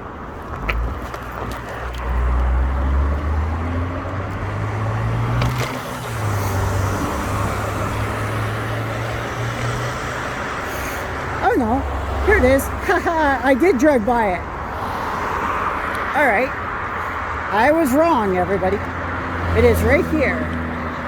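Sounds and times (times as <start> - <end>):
road and wind noise: 0.0 - 21.0
vehicle engine humming: 0.0 - 21.0.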